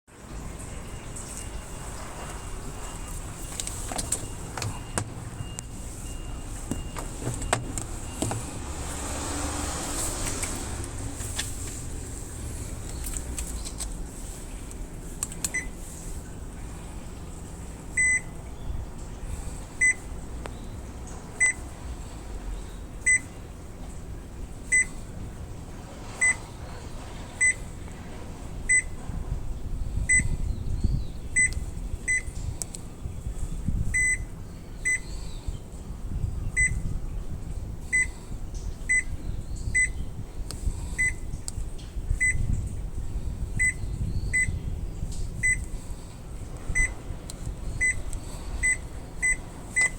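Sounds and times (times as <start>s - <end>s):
washing machine beeping: 0.2s - 11.2s, 15.3s - 16.5s, 17.8s - 21.8s, 22.5s - 38.2s, 38.8s - 40.4s, 41.0s - 41.4s, 42.0s - 42.8s, 43.6s - 49.9s.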